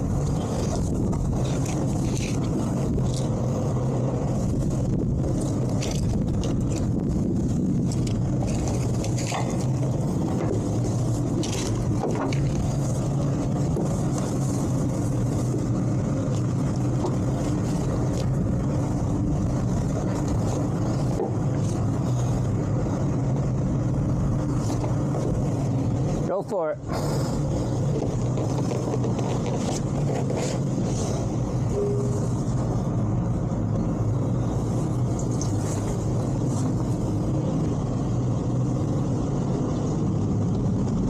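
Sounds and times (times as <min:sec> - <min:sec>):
boat engine idling: 0:00.0 - 0:39.3.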